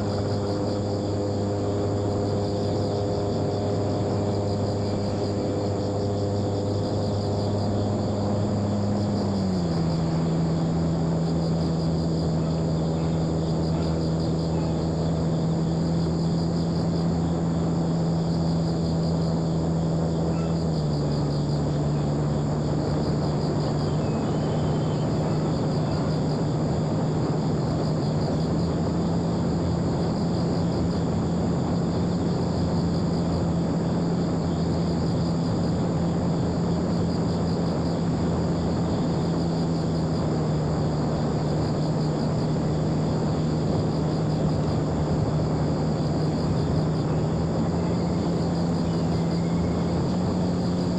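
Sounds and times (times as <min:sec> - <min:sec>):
electric motor and propeller humming: 0:00.0 - 0:50.9.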